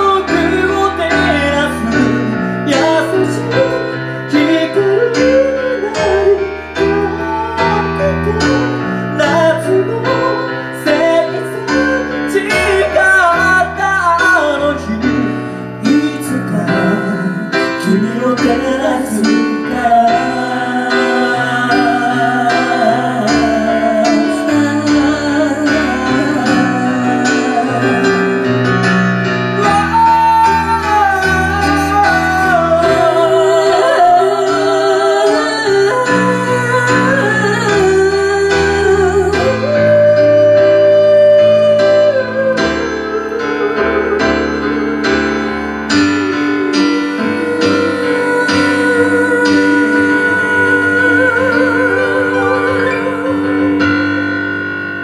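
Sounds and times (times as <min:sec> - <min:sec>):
man and woman singing a ballad: 0:00.0 - 0:45.0, 0:46.2 - 0:54.7
grand piano: 0:00.0 - 0:55.0.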